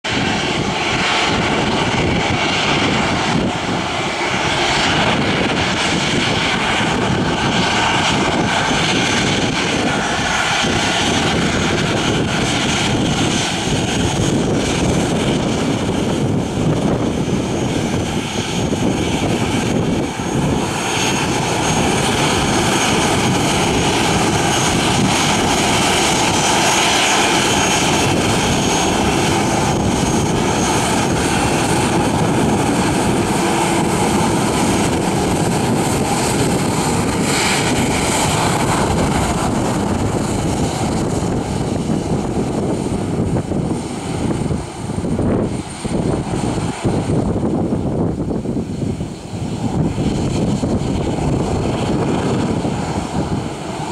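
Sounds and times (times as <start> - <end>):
jet engines idling: 0.1 - 53.9.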